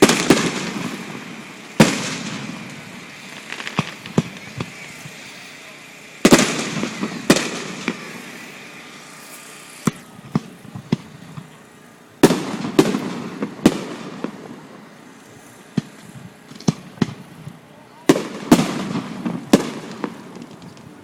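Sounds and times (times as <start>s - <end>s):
fireworks bangs echoing: 0.0s - 9.2s, 9.8s - 11.6s, 12.2s - 14.9s, 15.7s - 21.0s.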